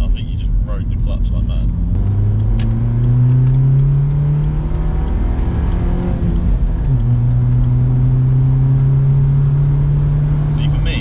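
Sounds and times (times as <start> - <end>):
car engine drone from inside: 0.0 - 11.0
road noise: 0.0 - 11.0.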